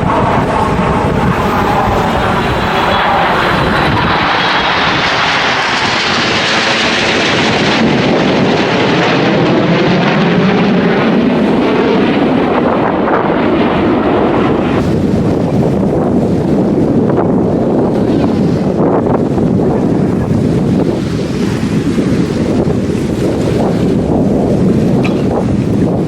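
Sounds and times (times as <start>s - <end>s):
aircraft roaring past: 0.0s - 26.0s.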